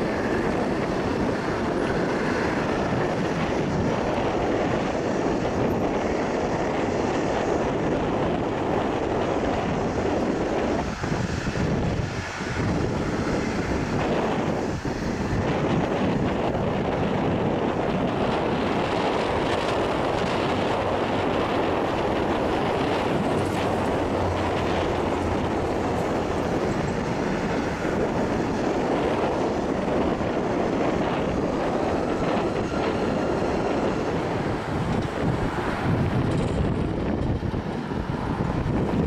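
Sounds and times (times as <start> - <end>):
jet engines rushing rumble: 0.0 - 39.0.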